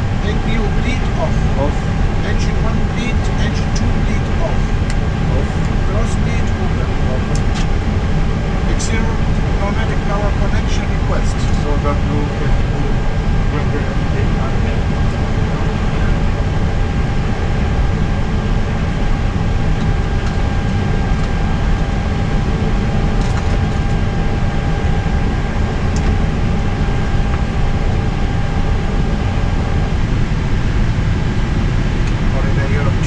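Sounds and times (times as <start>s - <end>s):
faint equipment whine: 0.0s - 33.0s
flight deck rumble and hum: 0.0s - 33.0s.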